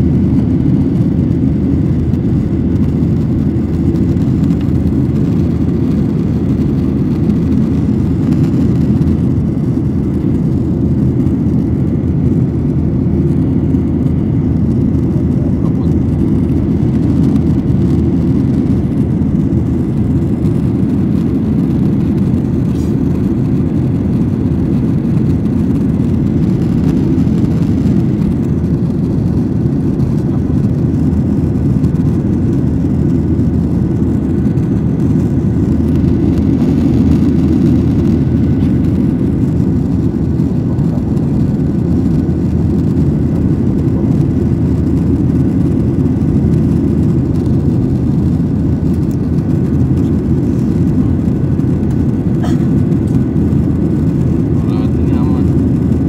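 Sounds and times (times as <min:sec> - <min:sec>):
airplane engines rumbling: 0:00.0 - 0:56.0.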